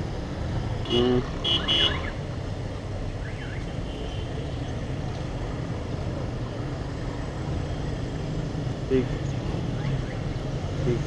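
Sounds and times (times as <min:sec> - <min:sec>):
engines running in traffic: 0:00.0 - 0:11.0.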